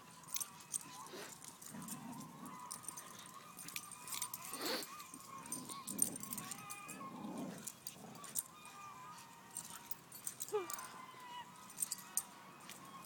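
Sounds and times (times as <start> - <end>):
metallic jingling and clicks: 0.0 - 8.8, 9.4 - 13.0
puppies whining: 0.0 - 13.0.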